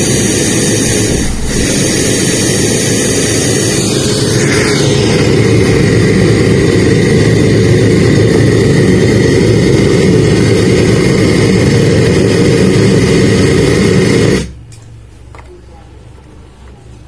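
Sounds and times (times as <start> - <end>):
speaker rumbling roar: 0.0 - 14.6.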